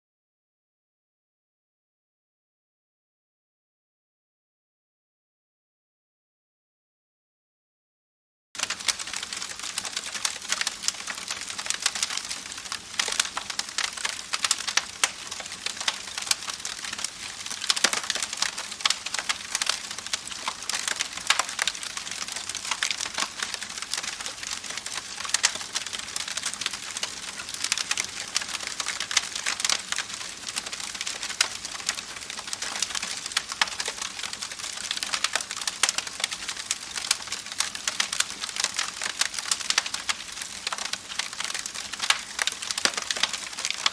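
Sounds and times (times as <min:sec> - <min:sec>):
campfire crackling and popping: 0:08.6 - 0:43.9.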